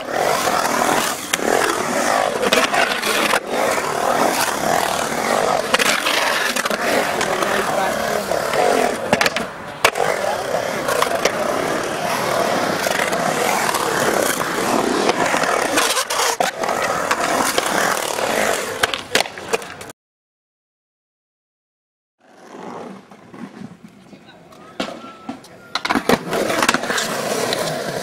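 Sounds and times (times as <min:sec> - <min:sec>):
skateboard clacking on concrete: 0:00.0 - 0:19.9, 0:23.0 - 0:28.0
skateboard wheels rolling on concrete: 0:00.0 - 0:19.9, 0:22.2 - 0:28.0.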